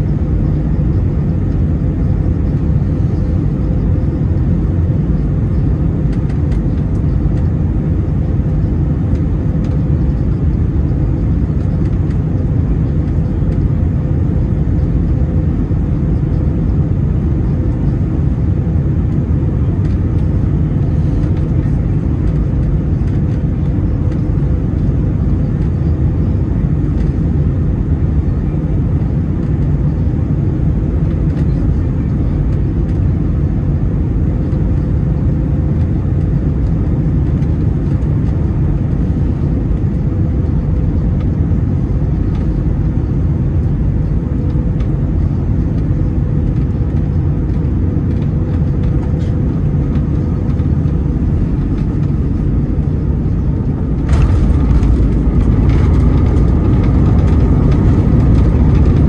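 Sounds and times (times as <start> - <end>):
aircraft engines and airflow rumble: 0.0 - 59.0.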